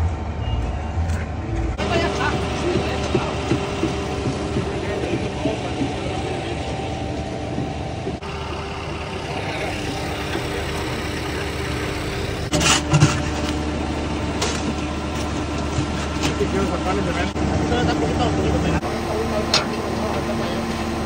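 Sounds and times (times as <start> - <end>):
heavy truck engine running: 0.0 - 21.0
pump machinery: 1.8 - 21.0.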